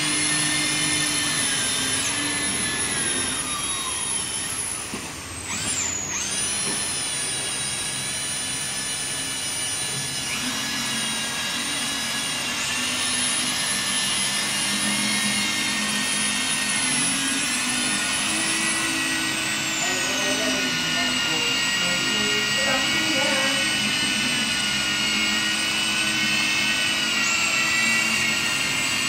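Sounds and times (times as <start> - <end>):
electric polisher motor whine: 0.0 - 29.0.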